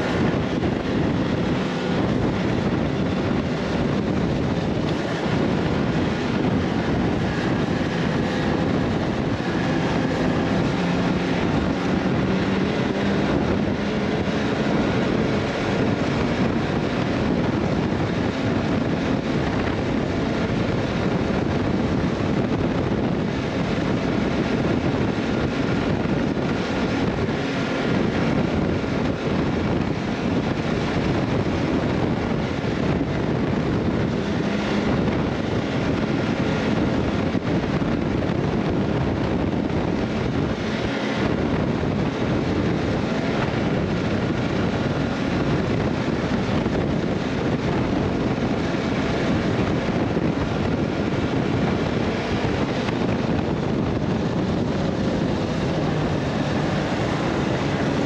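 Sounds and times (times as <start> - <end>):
vehicle tyres rumbling on road: 0.0 - 58.0
wind rush over microphone: 0.0 - 58.0.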